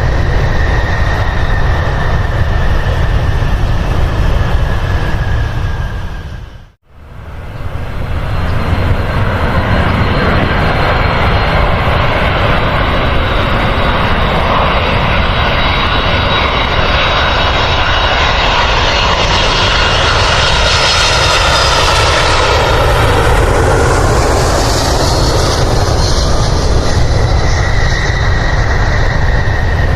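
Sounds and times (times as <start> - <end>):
airliner engines running: 0.0 - 29.9.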